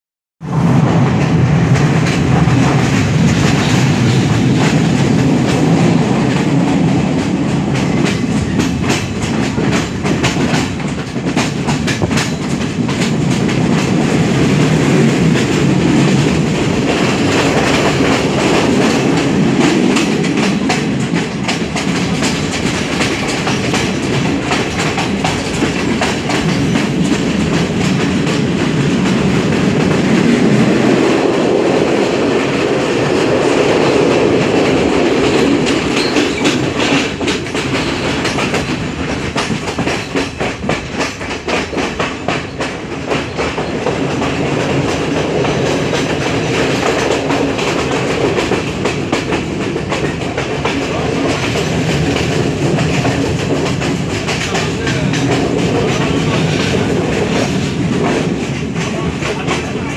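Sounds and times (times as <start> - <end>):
train running noise: 0.4 - 59.9
wheels clicking over rail joints: 1.7 - 59.9.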